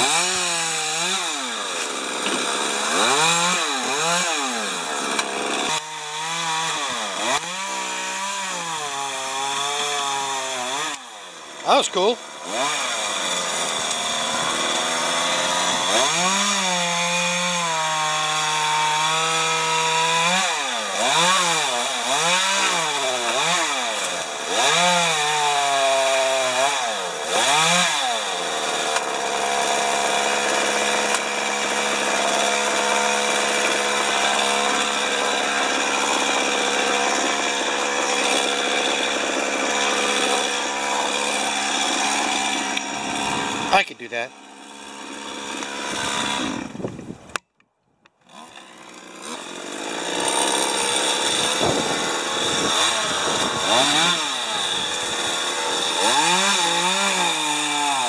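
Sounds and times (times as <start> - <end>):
chainsaw running: 0.0 - 47.4, 48.1 - 58.0.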